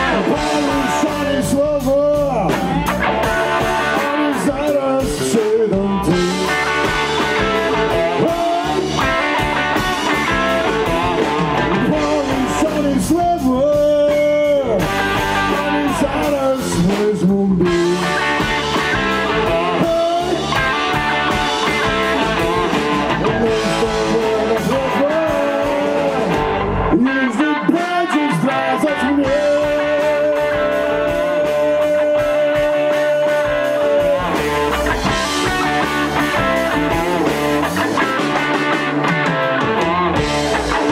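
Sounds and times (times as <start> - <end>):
electric blues band playing: 0.0 - 40.9.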